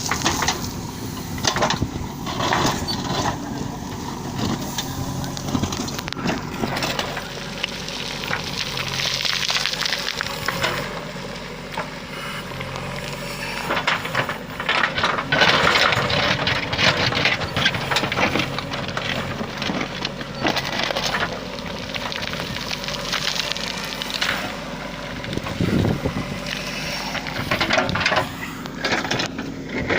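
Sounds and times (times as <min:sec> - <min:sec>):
crunching and scraping: 0:00.0 - 0:29.9
diesel engine running: 0:00.0 - 0:29.9.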